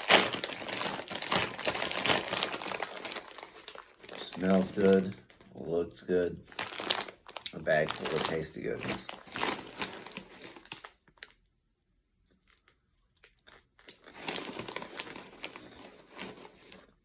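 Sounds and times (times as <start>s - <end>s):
chip bag crinkling: 0.0s - 5.5s, 6.5s - 11.4s, 12.4s - 17.0s.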